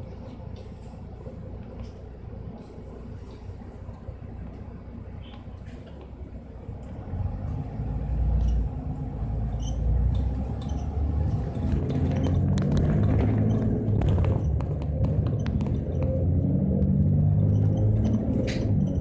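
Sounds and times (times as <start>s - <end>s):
bus engine accelerating: 0.0s - 19.0s.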